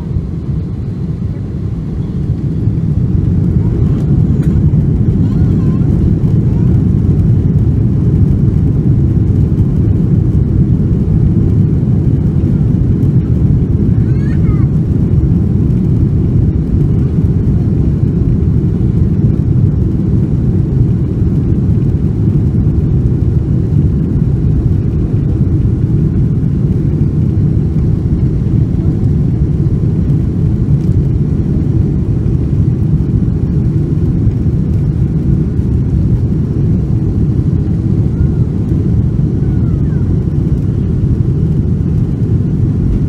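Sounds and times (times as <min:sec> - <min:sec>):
airliner cabin drone: 0:00.0 - 0:43.0.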